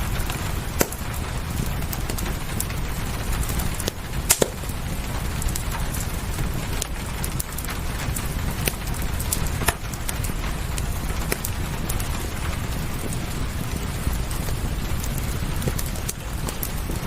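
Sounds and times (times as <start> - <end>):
rain rumbling: 0.0 - 17.0
wood fire crackling: 0.0 - 17.0.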